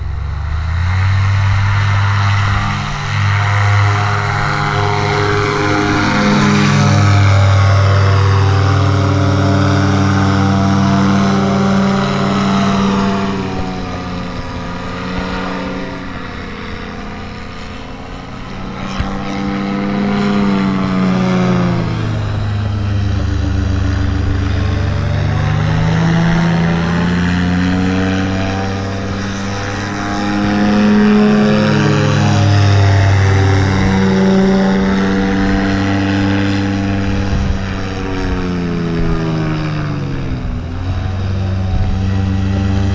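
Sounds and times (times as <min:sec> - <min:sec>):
paramotor engine droning: 0:00.0 - 0:42.9.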